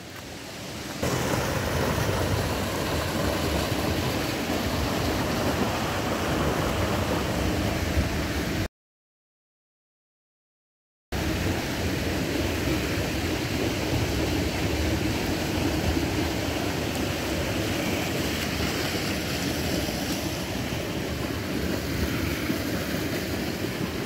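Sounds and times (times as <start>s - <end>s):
floodwater rushing: 0.0s - 8.7s, 11.2s - 24.0s.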